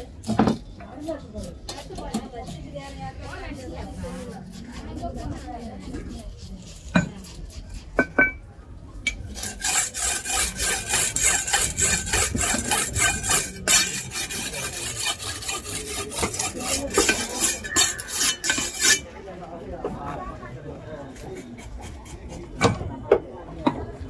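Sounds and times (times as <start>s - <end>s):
knife scraping fish scales: 0.0s - 8.1s, 9.1s - 19.1s, 21.1s - 22.6s.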